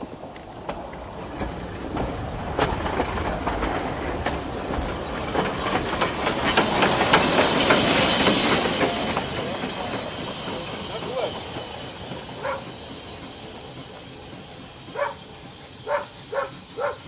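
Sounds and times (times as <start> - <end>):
steam hissing: 0.0 - 17.0
train wheels clicking on track: 0.0 - 17.0.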